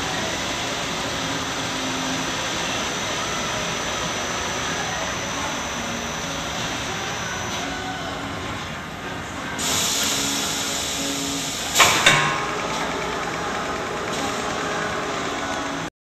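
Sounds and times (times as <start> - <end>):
sharp hissing bursts: 0.0 - 15.8
filling machine hum: 0.0 - 15.9.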